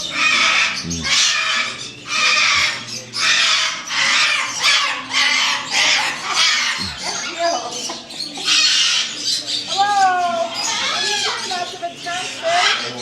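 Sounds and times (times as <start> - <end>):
parrot squawking: 0.0 - 13.0.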